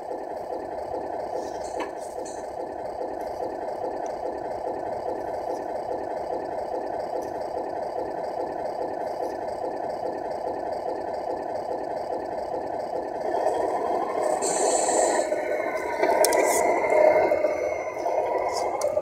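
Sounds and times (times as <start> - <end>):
simulated truck engine idling: 0.0 - 19.0.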